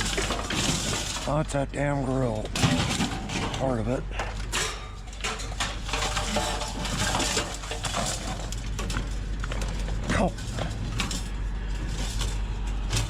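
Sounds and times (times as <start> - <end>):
scrap metal clanking: 0.0 - 1.4, 2.2 - 13.0.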